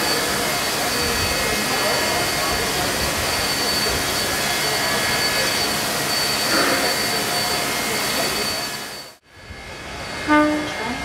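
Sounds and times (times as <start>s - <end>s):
steam hissing from locomotive: 0.0s - 9.2s.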